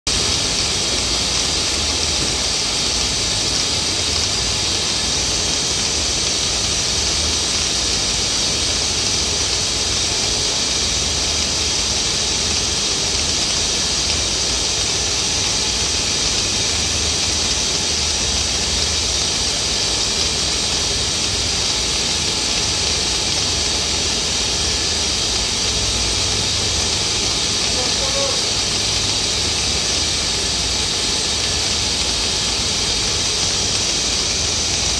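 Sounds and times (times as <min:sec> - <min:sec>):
liquid jetting from a hose: 0:00.1 - 0:34.9.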